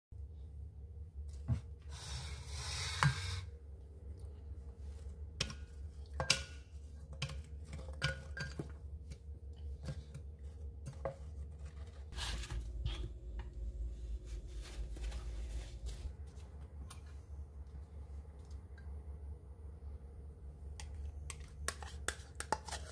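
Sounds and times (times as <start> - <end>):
steady low hum: 0.2 - 22.9.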